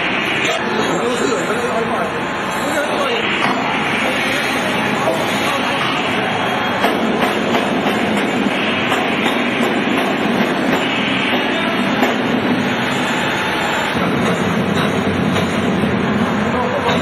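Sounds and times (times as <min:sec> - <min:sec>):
heavy workshop machinery running: 0:00.0 - 0:17.0.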